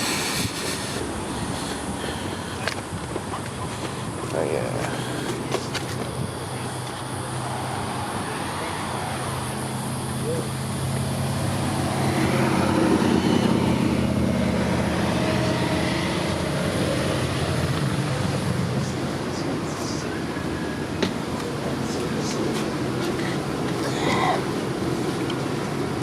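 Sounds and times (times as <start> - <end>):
tram machinery hum: 0.0 - 26.0.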